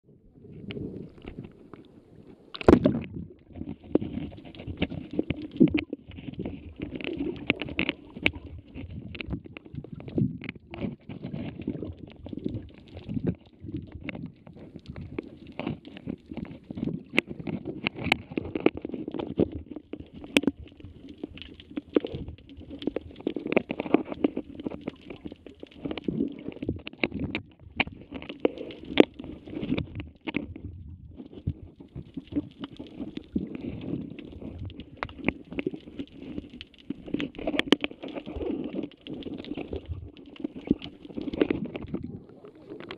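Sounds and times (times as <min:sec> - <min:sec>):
bubbles: 0:00.3 - 0:42.9
underwater water churning: 0:00.4 - 0:42.9
sharp clicks and crackles: 0:00.5 - 0:42.9.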